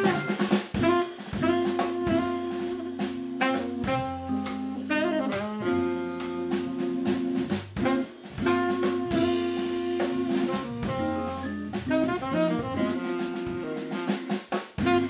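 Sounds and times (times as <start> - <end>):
drum kit hits: 0.0 - 15.0
organ chords: 0.0 - 15.0
tenor saxophone: 0.0 - 15.0
low bass notes: 1.4 - 13.7.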